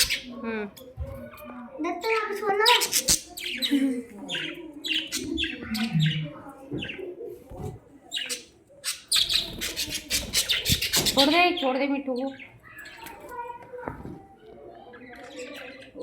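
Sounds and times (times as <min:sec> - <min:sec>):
budgerigars chirping and warbling: 0:00.0 - 0:13.5, 0:14.5 - 0:16.0.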